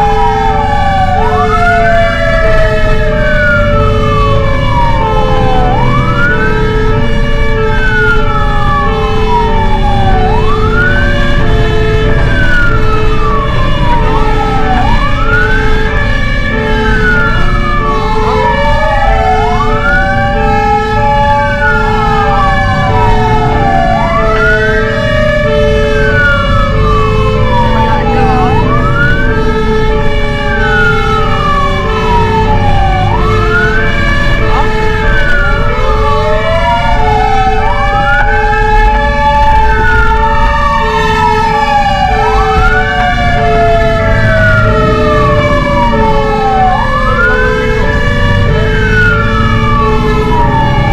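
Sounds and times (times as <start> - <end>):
fire engine siren wailing: 0.0 - 50.9
truck engine rumble: 0.0 - 50.9.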